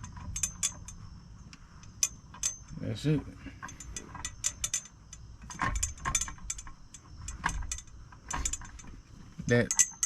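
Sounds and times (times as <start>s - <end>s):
metal parts rattling inside a pole: 0.0s - 10.0s.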